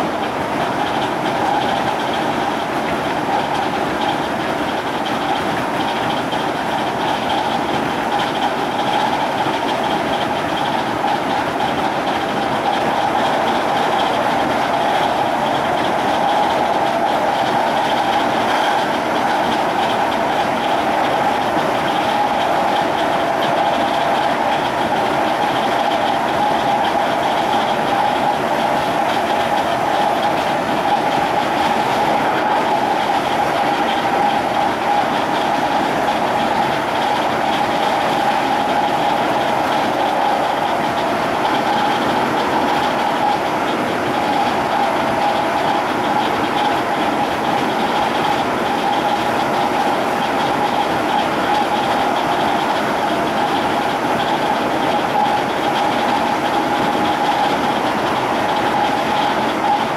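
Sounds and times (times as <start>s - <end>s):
traction motor whine: 0.0s - 59.9s
wheels rumbling on rails: 0.0s - 59.9s.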